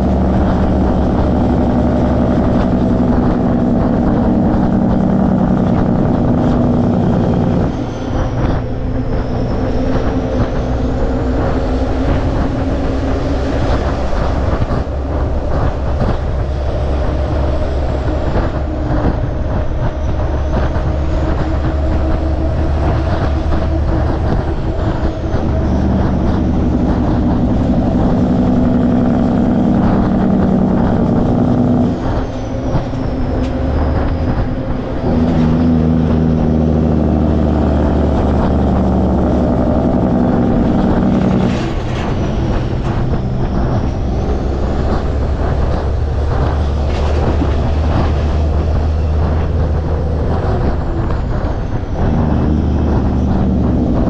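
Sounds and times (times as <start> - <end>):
diesel truck engine drone: 0.0 - 54.0
road and rattle noise: 0.0 - 54.0.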